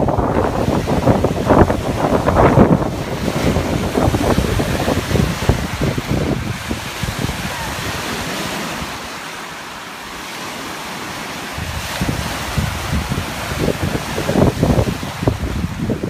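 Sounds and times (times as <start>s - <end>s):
wind buffeting microphone: 0.0s - 9.2s, 11.0s - 16.0s
waves washing over pebbly shore: 0.0s - 16.0s.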